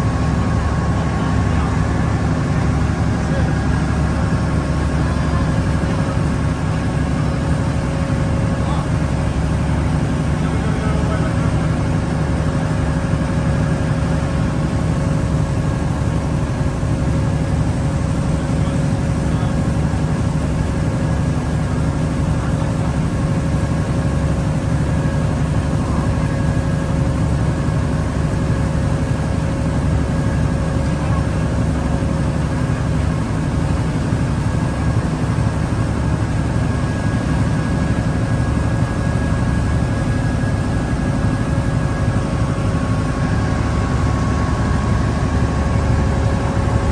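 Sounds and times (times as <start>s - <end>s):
ferry engine droning: 0.0s - 46.9s.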